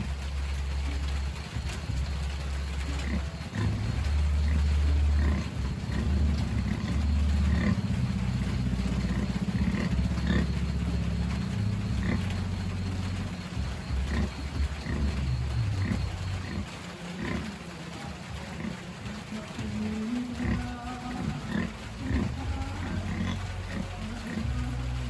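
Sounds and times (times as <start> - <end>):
piglets squeaking: 0.0 - 19.3, 20.3 - 24.8
sow grunting: 0.0 - 24.9.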